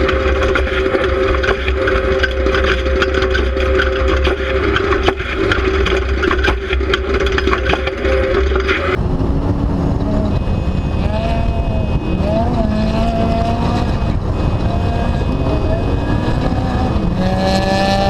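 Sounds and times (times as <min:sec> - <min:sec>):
crackling and rattling: 0:00.0 - 0:18.0
truck engine deep rumble: 0:00.0 - 0:18.0.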